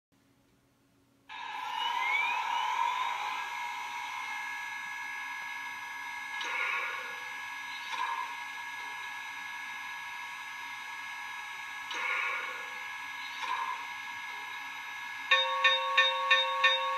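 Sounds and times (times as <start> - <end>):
model locomotive whirring hum: 1.3 - 16.9.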